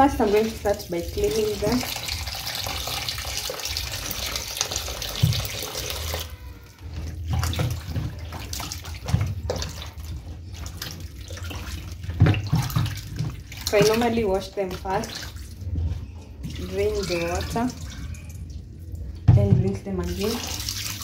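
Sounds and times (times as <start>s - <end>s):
small splashes: 0.0s - 21.0s.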